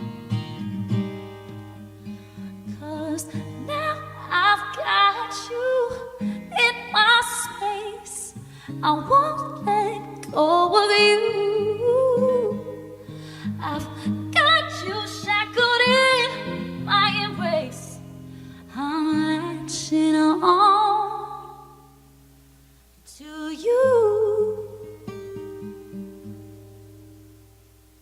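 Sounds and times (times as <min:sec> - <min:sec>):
guitar accompaniment: 0:00.0 - 0:28.0.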